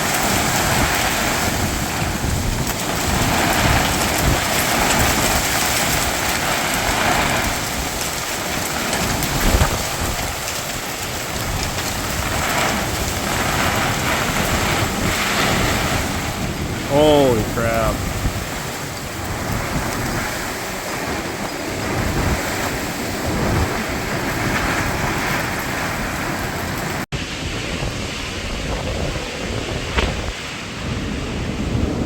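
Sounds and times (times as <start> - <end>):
heavy rain on a tarp: 0.0 - 32.0.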